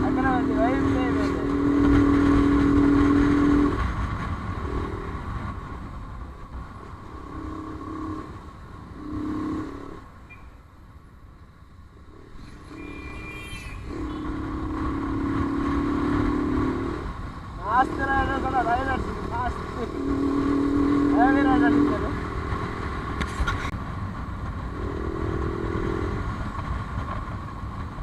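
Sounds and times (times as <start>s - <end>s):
motorcycle engine revving: 0.0s - 5.9s, 6.8s - 10.2s, 12.0s - 23.7s, 24.5s - 27.3s
low wind rumble: 0.0s - 28.0s.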